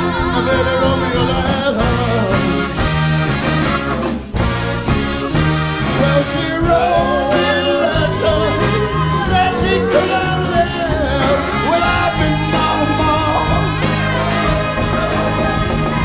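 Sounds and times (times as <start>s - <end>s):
man singing lead vocal: 0.0s - 2.9s, 5.8s - 16.0s
live soul-rock band playing: 0.0s - 16.0s.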